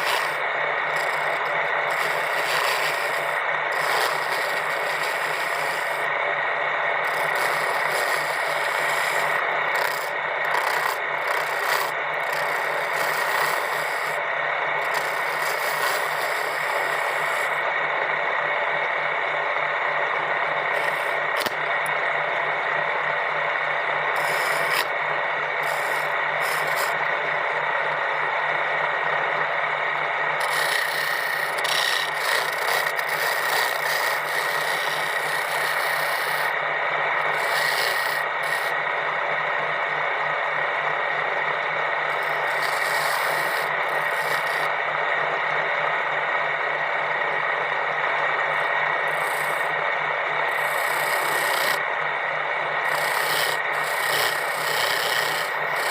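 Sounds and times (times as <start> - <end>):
constant machine hum: 0.0 - 55.9.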